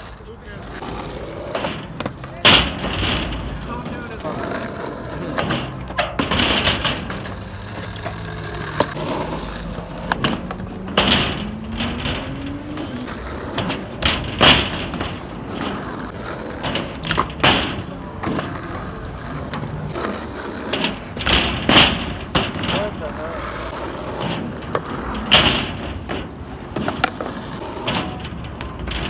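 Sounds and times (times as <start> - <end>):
skateboard wheels on asphalt: 0.0 - 29.0
skateboard clacks landing: 0.8 - 29.0.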